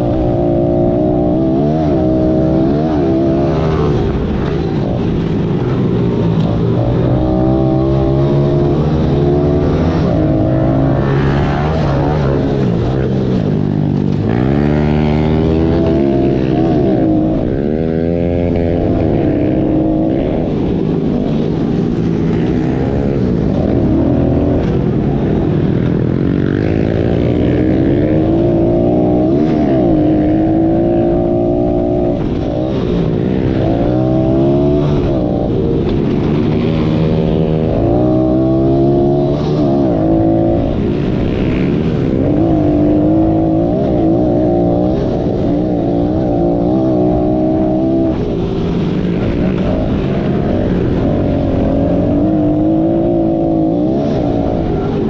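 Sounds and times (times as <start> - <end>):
pit bike engine revving: 0.0 - 55.0.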